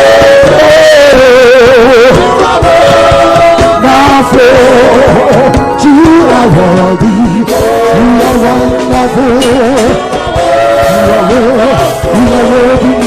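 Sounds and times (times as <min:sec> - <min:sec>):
band with steady drum beat: 0:00.0 - 0:13.0
singer with wide vibrato: 0:00.0 - 0:13.0.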